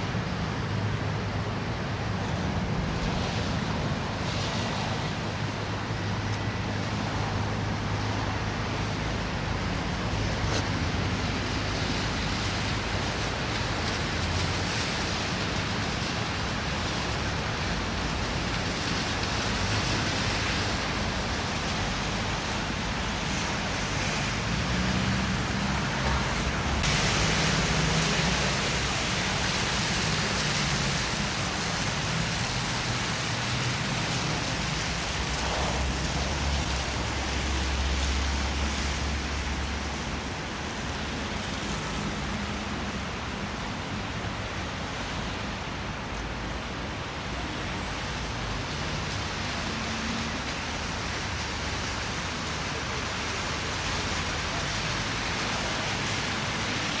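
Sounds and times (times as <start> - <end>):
traffic hiss on wet roads: 0.0 - 57.0.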